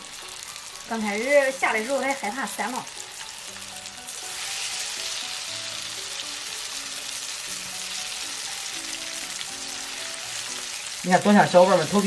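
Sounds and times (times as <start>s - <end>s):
deep-frying sizzle in hot oil: 0.0s - 12.0s
soft background music: 0.0s - 12.0s.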